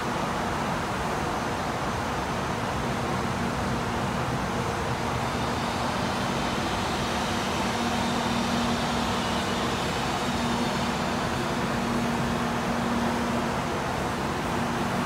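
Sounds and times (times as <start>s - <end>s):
locomotive fans whirring: 0.2s - 15.0s.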